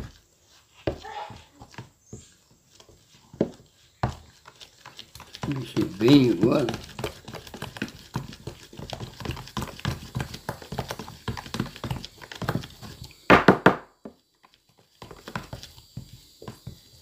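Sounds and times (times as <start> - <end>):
utensil stirring slime in plastic tub: 0.0 - 13.3, 14.2 - 17.0.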